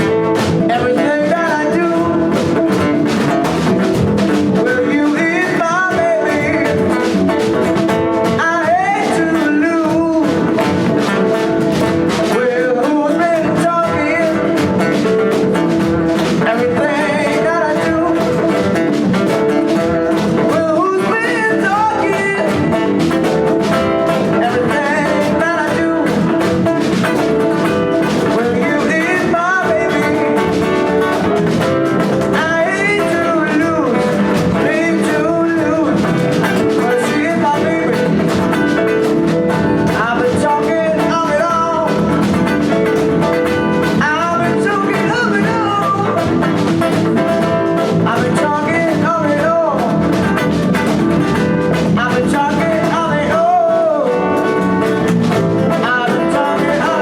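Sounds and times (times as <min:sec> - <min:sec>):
drum kit: 0:00.0 - 0:57.0
electric guitar: 0:00.0 - 0:57.0
live blues-rock band: 0:00.0 - 0:57.0.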